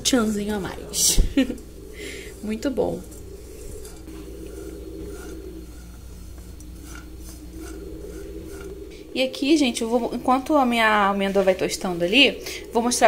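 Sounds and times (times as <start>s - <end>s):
almonds toasting in a dry pan: 0.0s - 13.0s
scraping and rustling in a pan: 0.0s - 13.0s
steady low hum: 0.0s - 13.0s.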